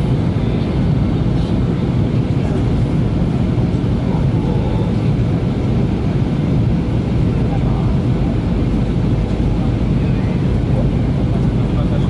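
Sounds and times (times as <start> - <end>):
airplane cabin engine and airflow rush: 0.0 - 12.0.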